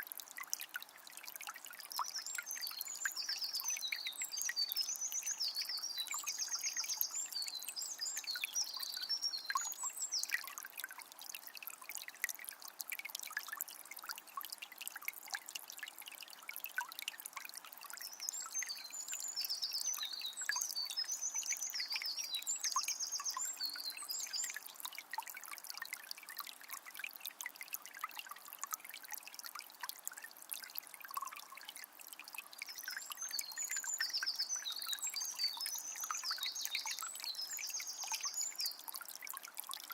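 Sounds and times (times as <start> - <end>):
spring water trickling and splashing: 0.0 - 39.9.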